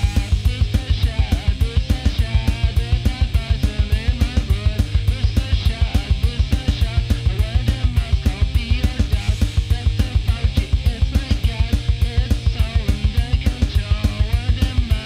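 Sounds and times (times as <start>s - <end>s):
electric guitar rock song: 0.0s - 15.0s
fast drum beat with heavy kick: 0.0s - 15.0s.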